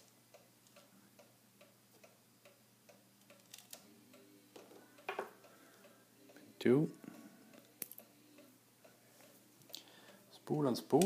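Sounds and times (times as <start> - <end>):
faint steady ticking: 0.0 - 11.0.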